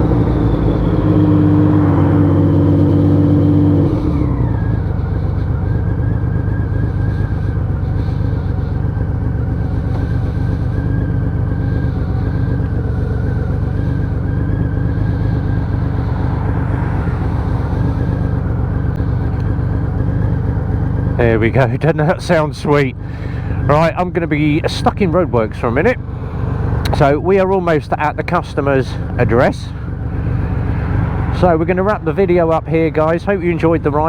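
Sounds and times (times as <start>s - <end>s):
motorcycle engine exhaust: 0.0s - 34.0s.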